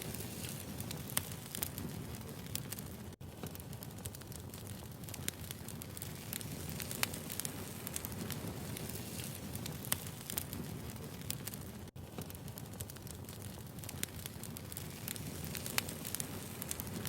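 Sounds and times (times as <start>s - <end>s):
fire rumbling: 0.0s - 17.0s
firewood crackling and popping: 0.0s - 17.0s.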